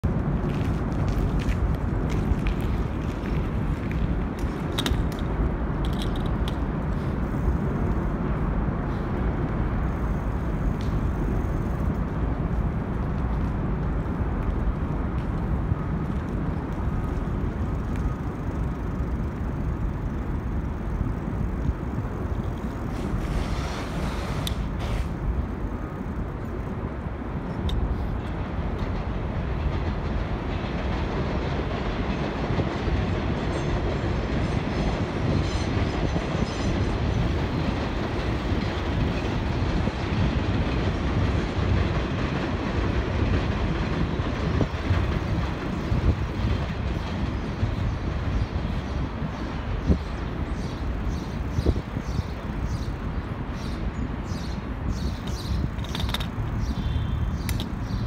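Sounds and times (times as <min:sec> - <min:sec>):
subway train rumbling on tracks: 0:00.0 - 0:58.0.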